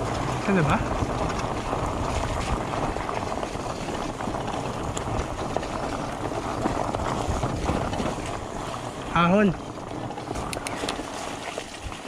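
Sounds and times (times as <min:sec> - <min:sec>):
bike tyres rushing through mud: 0:00.0 - 0:12.0
small clicks and rattles: 0:00.0 - 0:12.0
wind on microphone: 0:00.0 - 0:12.0.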